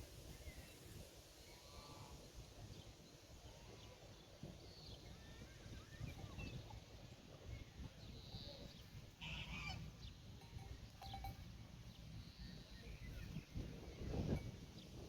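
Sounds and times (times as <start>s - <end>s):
small birds chirping: 1.4s - 9.0s, 9.6s - 15.0s.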